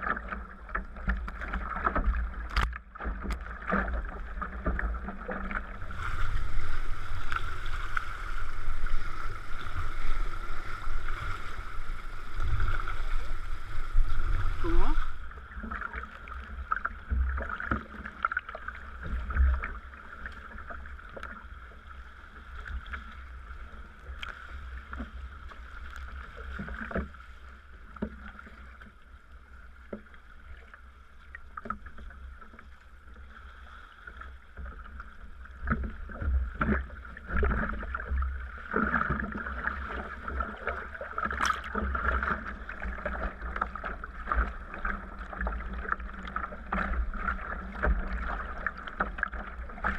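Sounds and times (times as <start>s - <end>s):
paddle splashes and knocks: 0.0s - 29.0s, 29.6s - 49.9s
water lapping at kayak: 0.0s - 49.9s.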